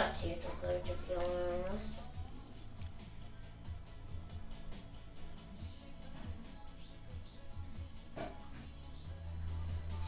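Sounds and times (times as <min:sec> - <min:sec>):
quiet music with soft beat: 0:00.0 - 0:10.0.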